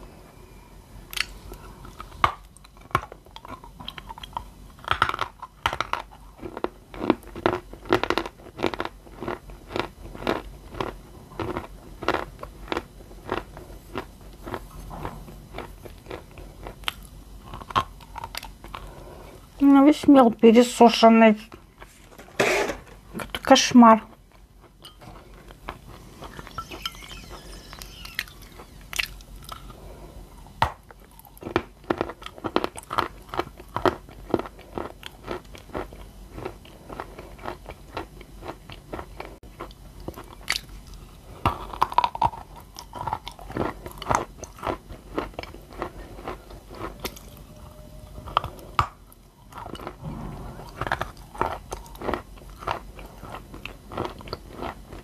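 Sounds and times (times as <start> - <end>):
chewing crunchy clay: 1.1 - 19.0, 24.1 - 47.5, 48.2 - 55.0.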